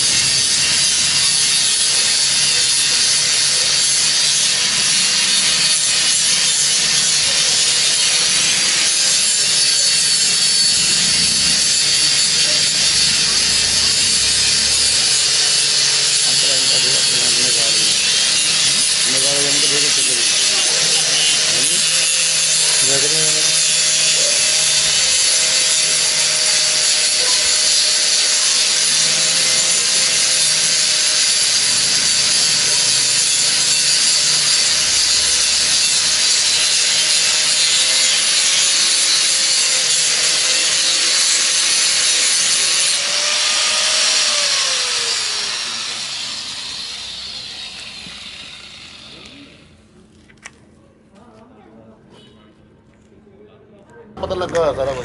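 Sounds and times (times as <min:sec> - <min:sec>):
angle grinder grinding metal: 0:00.0 - 0:49.8.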